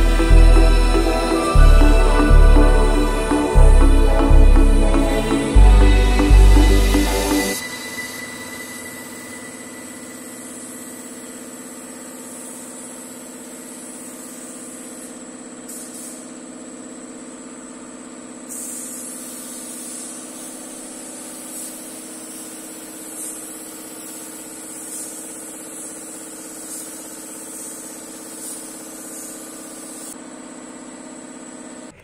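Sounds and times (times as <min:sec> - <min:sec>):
spray gun hissing: 0:00.0 - 0:16.4, 0:18.4 - 0:30.2
air compressor running: 0:00.0 - 0:32.0.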